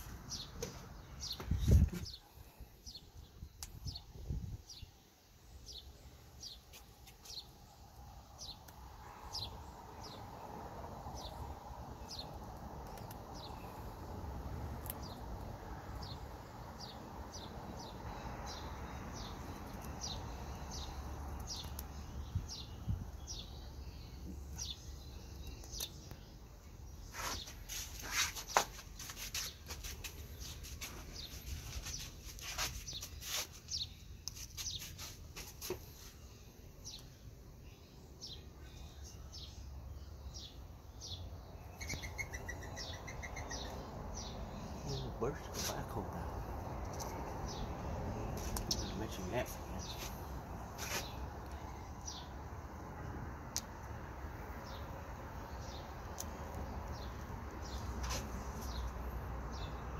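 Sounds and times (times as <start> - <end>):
small bird chirping: 0.0 - 14.0, 14.7 - 52.4.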